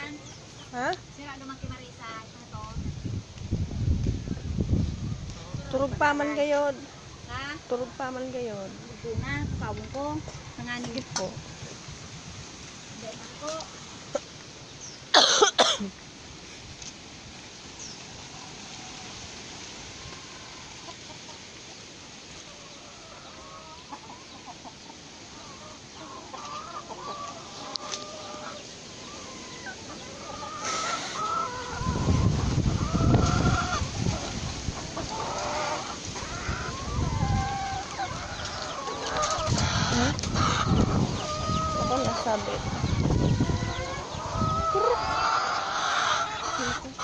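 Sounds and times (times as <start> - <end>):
chickens clucking: 0.0 - 2.8, 3.4 - 47.0.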